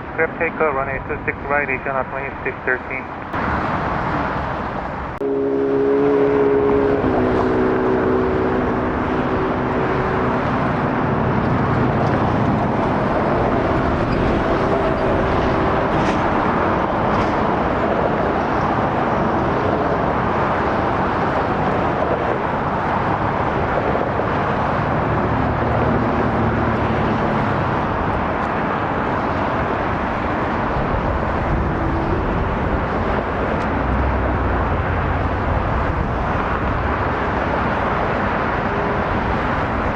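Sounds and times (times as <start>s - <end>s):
humming engine tones: 0.0s - 39.9s
jet engines roaring: 0.0s - 39.9s.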